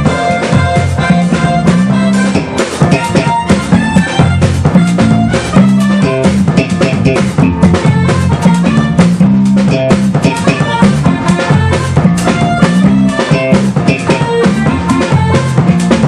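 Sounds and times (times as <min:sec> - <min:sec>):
bass guitar: 0:00.0 - 0:16.0
drum kit with rimshots: 0:00.0 - 0:16.0
electric guitar: 0:00.0 - 0:16.0.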